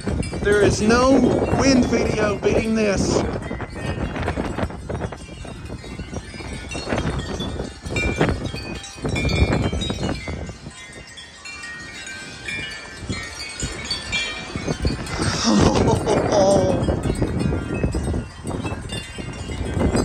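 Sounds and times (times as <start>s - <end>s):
metal wind chimes clanging: 0.0s - 20.0s
wind rushing across microphone: 0.0s - 20.0s.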